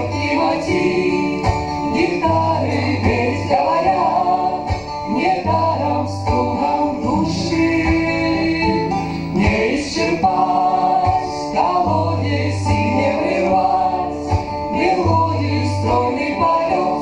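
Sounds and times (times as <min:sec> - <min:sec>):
guitar accompaniment: 0:00.0 - 0:17.0
voices singing a melody: 0:00.0 - 0:17.0.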